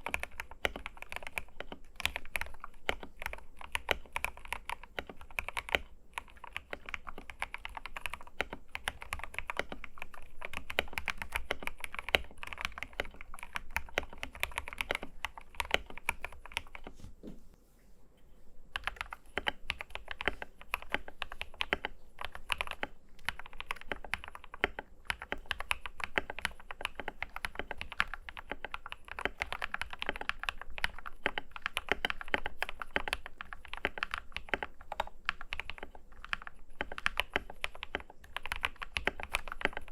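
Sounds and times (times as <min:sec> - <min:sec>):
typing on mechanical keyboard: 0:00.0 - 0:16.9, 0:18.7 - 0:39.9.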